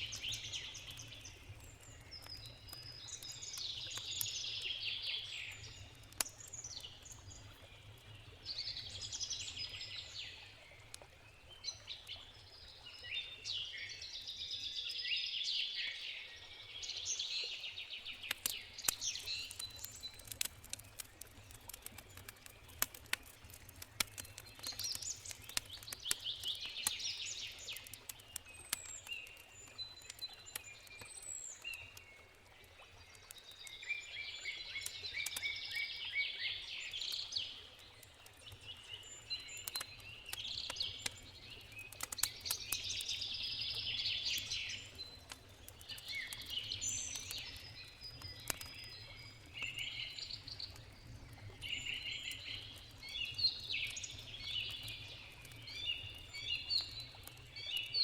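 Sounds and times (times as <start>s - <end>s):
campfire crackling and popping: 0.0s - 12.8s, 18.0s - 58.0s
songbirds singing: 0.0s - 58.0s.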